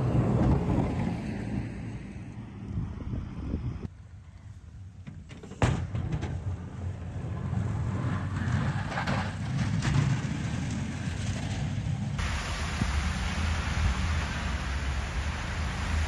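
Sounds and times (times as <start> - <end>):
vehicle engine and tyre rumble: 0.0 - 16.0.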